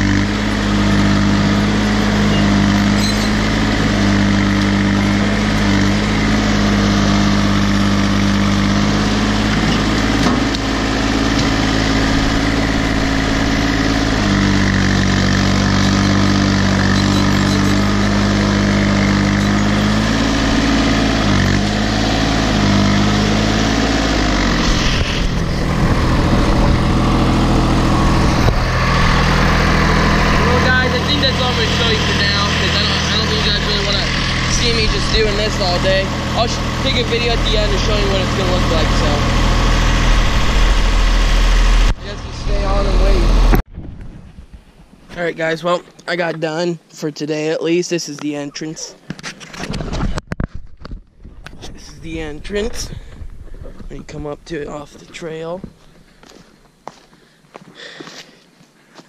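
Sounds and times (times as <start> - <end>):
tractor diesel engine running: 0.0 - 43.7, 50.0 - 59.0.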